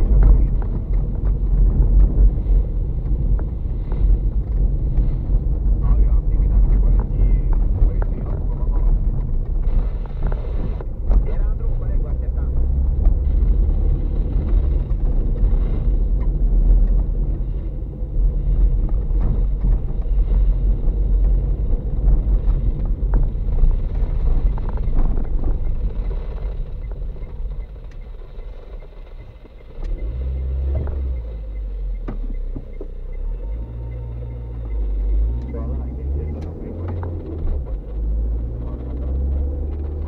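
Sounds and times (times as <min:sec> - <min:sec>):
car engine hum: 0:00.0 - 0:40.0
tyres rumbling on rough road: 0:00.0 - 0:40.0.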